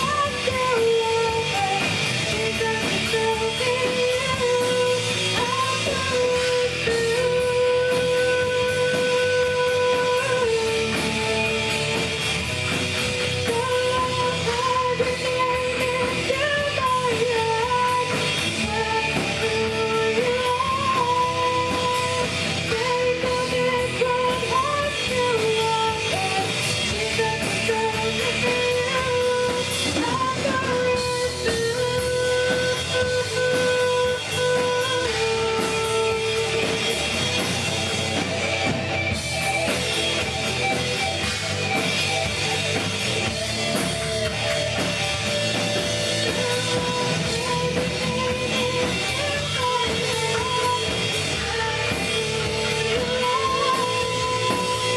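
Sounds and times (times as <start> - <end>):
person singing: 0.0 - 12.5, 13.3 - 54.9
drum kit: 0.0 - 54.9
electric guitar: 0.0 - 54.9.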